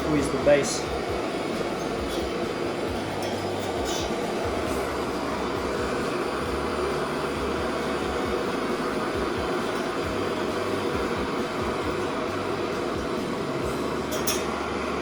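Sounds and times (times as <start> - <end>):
gas torch flame roaring: 0.0 - 15.0.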